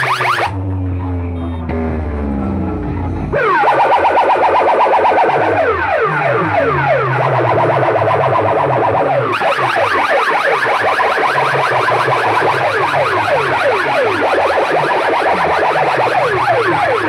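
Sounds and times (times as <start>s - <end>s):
electronic siren effect: 0.0s - 17.0s
low pulsing bass: 0.0s - 17.0s.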